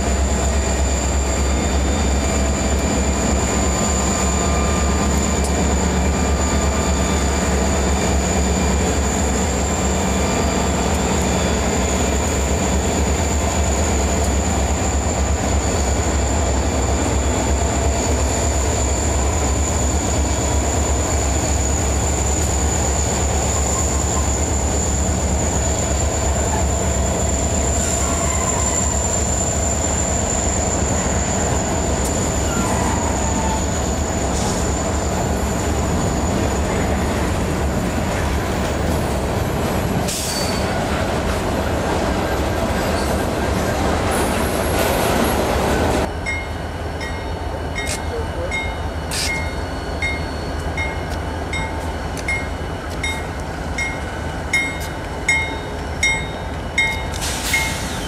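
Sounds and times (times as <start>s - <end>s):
freight train wheels rumbling on rail: 0.0s - 58.0s.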